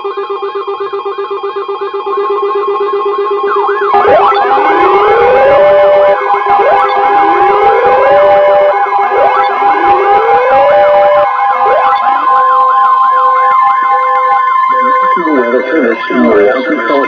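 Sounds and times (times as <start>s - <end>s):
steady attention tone: 0.0s - 17.0s
rising siren-like wails: 0.8s - 17.0s.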